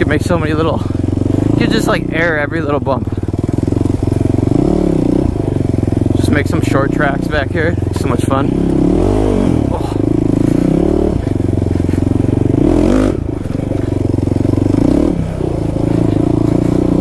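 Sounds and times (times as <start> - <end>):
quad engine revving: 0.0 - 17.0.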